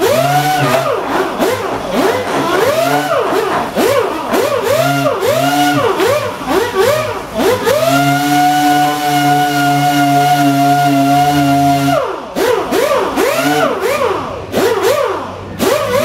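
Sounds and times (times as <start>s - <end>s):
sander whining: 0.0s - 16.0s.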